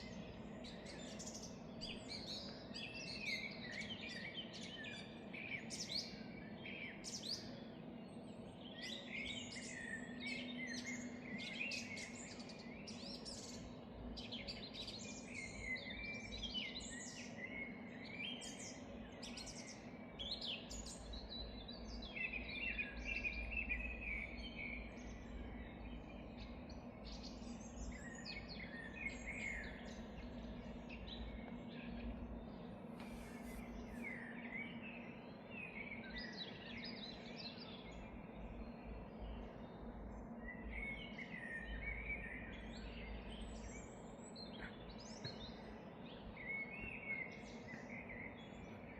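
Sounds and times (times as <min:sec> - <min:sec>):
birds singing and chirping: 0:00.0 - 0:48.9
steady low hum: 0:00.0 - 0:48.9.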